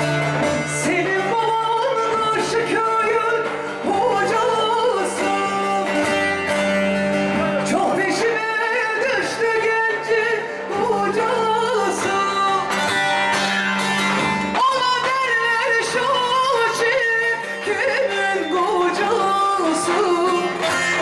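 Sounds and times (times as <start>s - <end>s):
plucked long-necked lute: 0.0s - 21.0s
woman singing: 0.5s - 6.6s, 7.6s - 13.2s, 14.4s - 21.0s.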